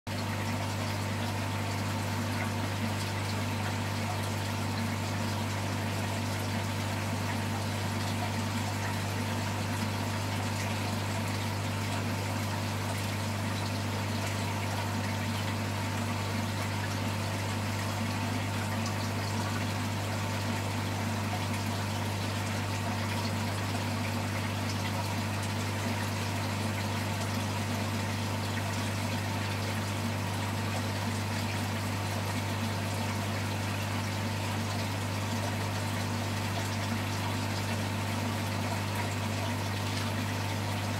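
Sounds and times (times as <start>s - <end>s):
aquarium pump humming: 0.1s - 40.9s.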